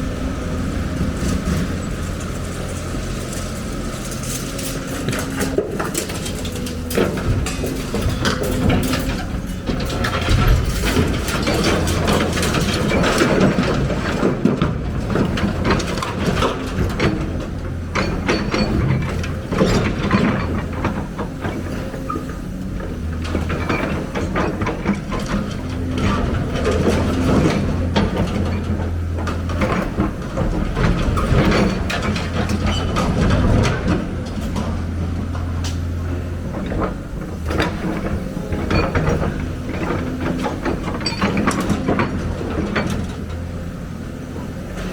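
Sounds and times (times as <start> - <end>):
excavator diesel engine running: 0.0 - 44.9
metal and rock clanking: 1.1 - 44.9.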